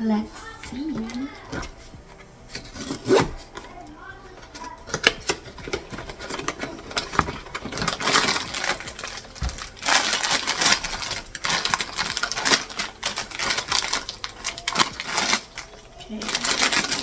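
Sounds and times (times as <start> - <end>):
packaging rustling and clicking: 0.4 - 17.0.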